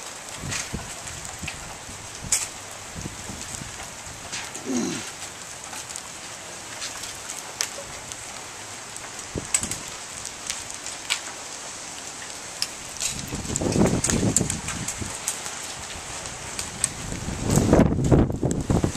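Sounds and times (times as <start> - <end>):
rain on lawns and pavement: 0.0 - 18.9.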